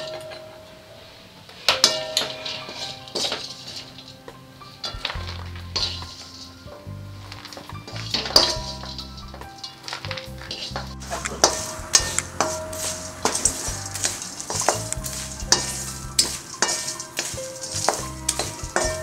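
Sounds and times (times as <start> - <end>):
spatula scraping metal pan: 1.6 - 19.0.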